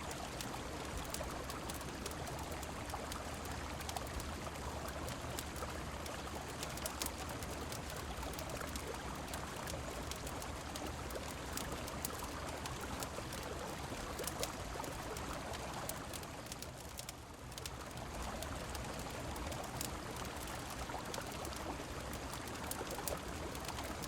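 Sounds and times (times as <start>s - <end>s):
rain: 0.0s - 24.0s
wood fire crackling: 0.2s - 24.0s.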